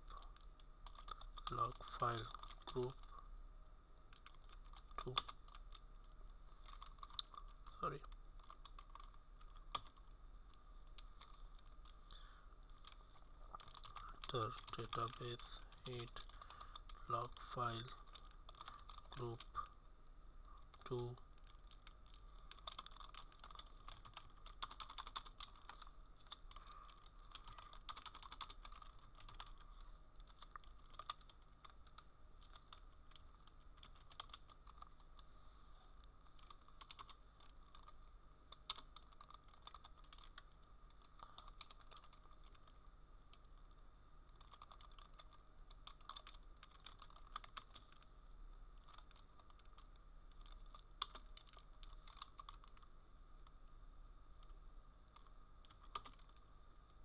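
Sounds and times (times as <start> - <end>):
faint keyboard typing: 0.0 - 3.4, 4.0 - 53.6, 54.3 - 57.0
steady low hum: 0.0 - 57.0.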